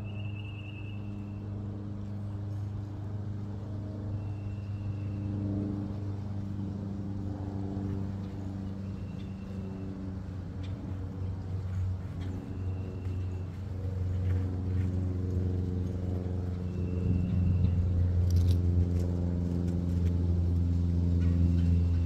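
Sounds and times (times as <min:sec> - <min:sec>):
engine humming: 0:01.1 - 0:22.0.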